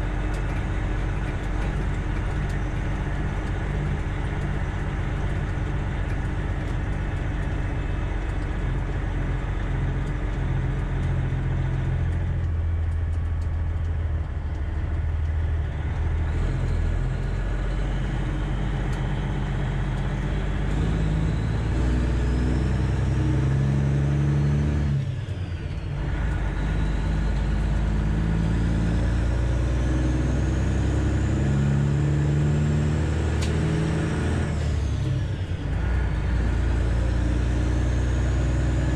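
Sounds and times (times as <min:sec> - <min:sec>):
diesel truck engine under load: 0:00.0 - 0:38.9.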